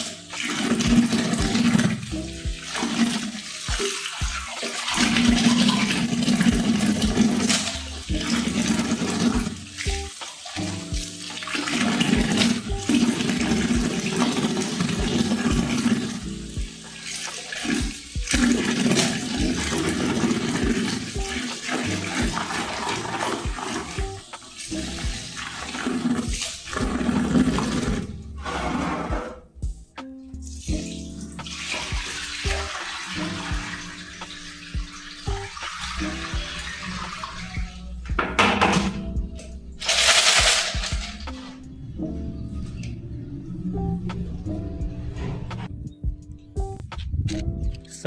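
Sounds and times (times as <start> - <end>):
water sloshing in a bucket: 0.0 - 29.5, 30.5 - 45.7.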